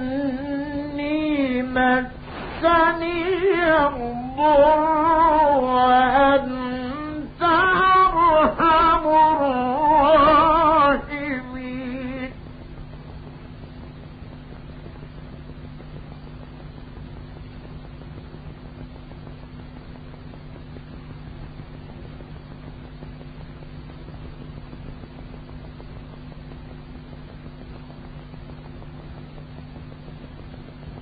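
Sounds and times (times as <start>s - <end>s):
low even hum: 0.0s - 31.0s
recording hiss: 0.0s - 31.0s.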